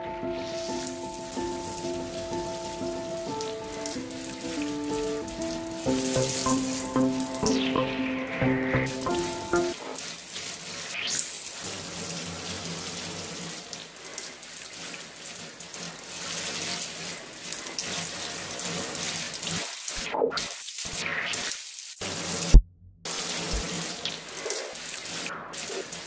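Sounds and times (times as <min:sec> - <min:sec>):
water-like noise hiss: 0:00.2 - 0:26.0.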